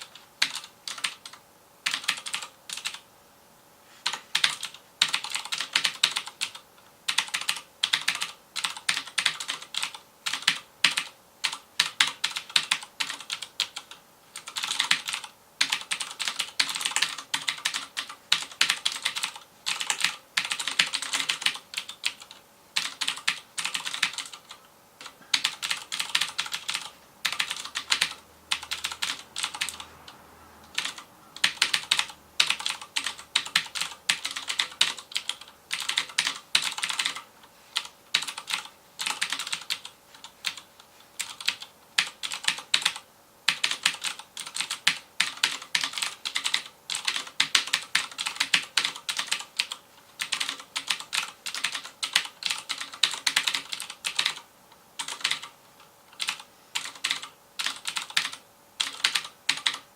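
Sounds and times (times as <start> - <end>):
clicky keyboard typing: 0.0 - 3.0, 4.0 - 29.9, 30.6 - 59.9.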